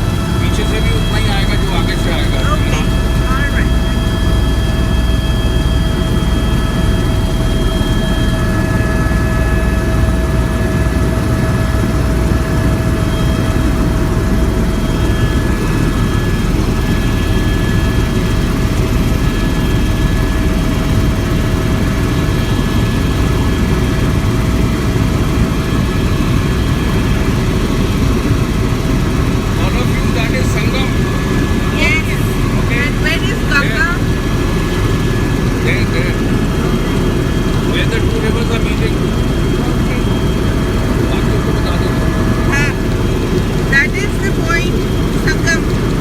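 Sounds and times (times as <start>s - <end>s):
helicopter rotor and engine rumble: 0.0s - 46.0s
high whine: 0.0s - 46.0s.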